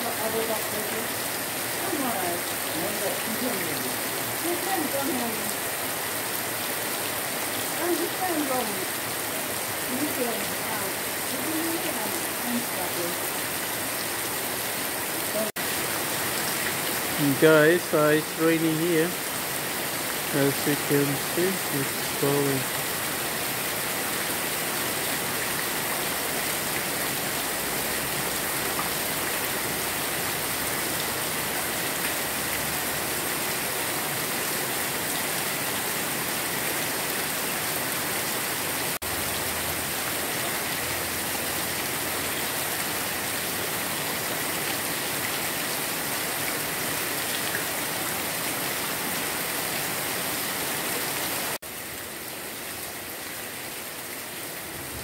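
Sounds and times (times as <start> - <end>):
heavy rain on grass and leaves: 0.0 - 55.0.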